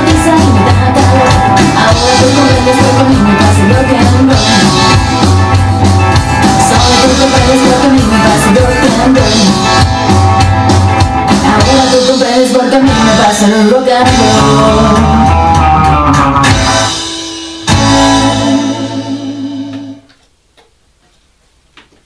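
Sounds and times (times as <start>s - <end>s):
rock and roll song with singer: 0.0s - 20.1s.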